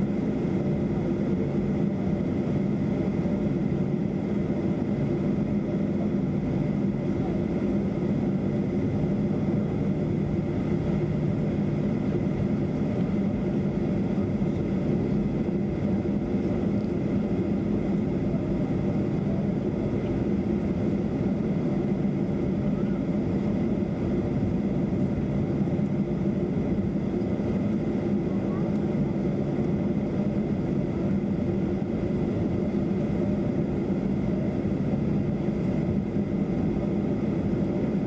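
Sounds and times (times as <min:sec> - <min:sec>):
aircraft cabin drone: 0:00.0 - 0:38.0
faint high engine whine: 0:00.0 - 0:38.0.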